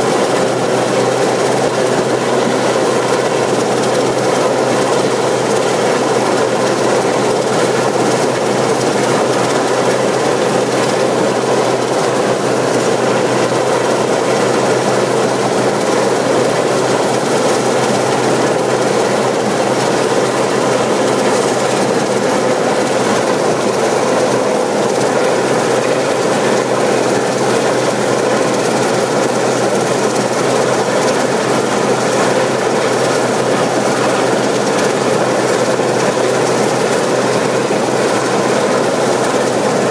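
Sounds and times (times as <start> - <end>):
helicopter hovering overhead: 0.0 - 39.9
high turbine whine: 0.0 - 39.9.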